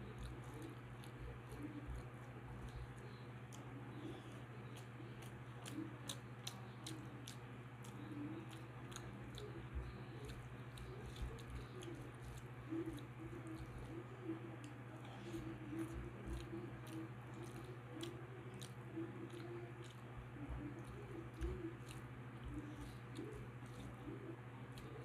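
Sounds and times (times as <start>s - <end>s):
steady low hum: 0.0s - 25.0s
wet chewing and mouth smacks: 0.0s - 25.0s.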